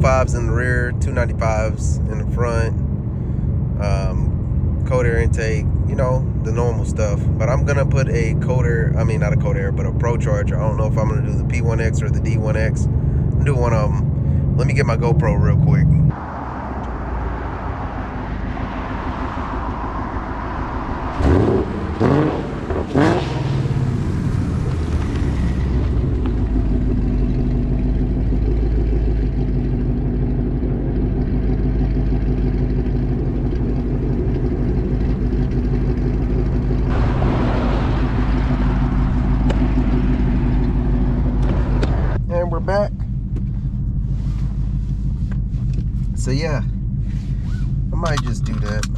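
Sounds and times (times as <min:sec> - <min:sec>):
car engine running: 0:00.0 - 0:48.9.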